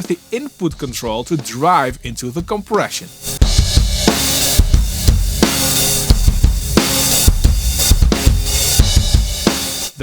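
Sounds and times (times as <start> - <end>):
compressed drum kit groove: 0.0 - 10.0.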